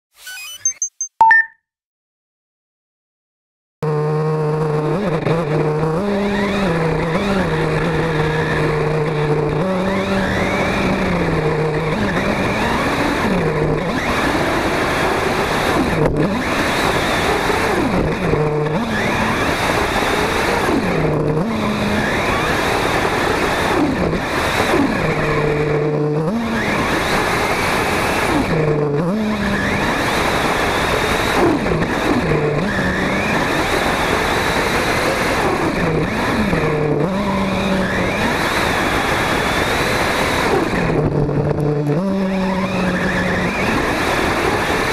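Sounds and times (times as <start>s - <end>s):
model car engine revving: 3.8s - 44.9s.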